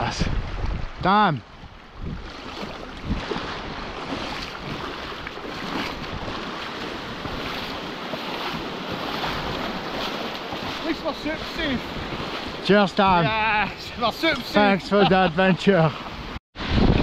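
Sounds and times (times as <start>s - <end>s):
wind buffeting microphone: 0.0s - 14.8s, 16.0s - 17.0s
waves lapping and splashing: 0.0s - 17.0s.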